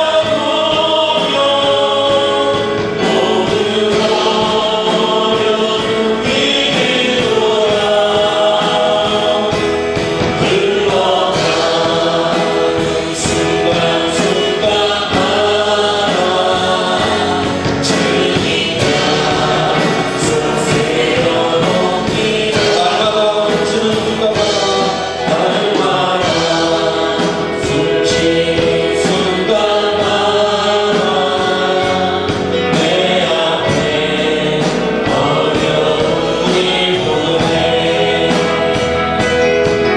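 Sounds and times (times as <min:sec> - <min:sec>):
congregation singing with music: 0:00.0 - 0:39.9.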